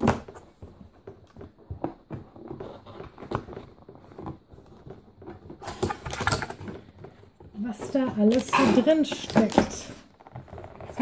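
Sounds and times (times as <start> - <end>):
cardboard knocks scrapes and rustles: 0.0 - 11.0.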